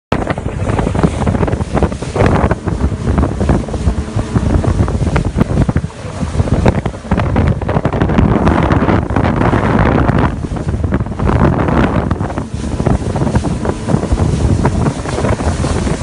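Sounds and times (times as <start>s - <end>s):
water slapping against boat: 0.1s - 16.0s
wind buffeting microphone: 0.1s - 16.0s.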